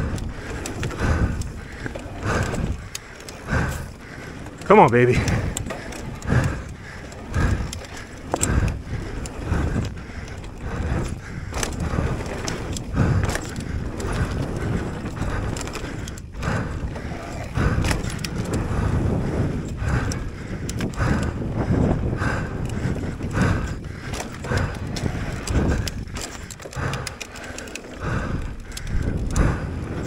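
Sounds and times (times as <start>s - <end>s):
bike clattering over bumps: 0.0s - 30.0s
bike tyres rolling on dirt: 0.0s - 30.0s.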